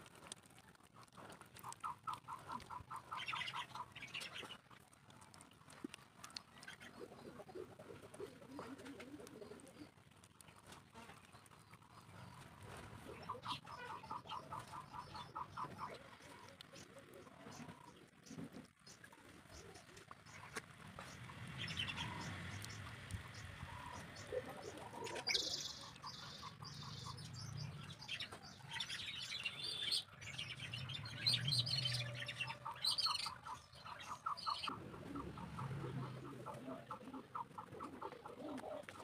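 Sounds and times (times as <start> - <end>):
birds chirping: 1.6 - 4.6, 9.5 - 39.0.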